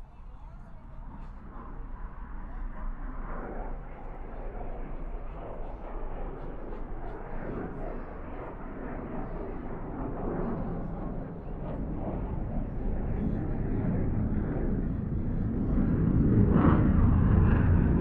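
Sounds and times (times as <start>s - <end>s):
distant jet aircraft rumble: 0.0s - 18.0s.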